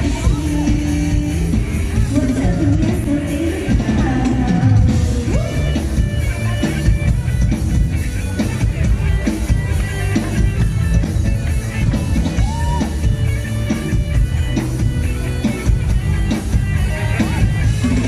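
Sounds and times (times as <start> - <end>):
bass: 0.0 - 18.0
drum kit beat: 0.0 - 18.0
electric guitar: 0.0 - 18.0.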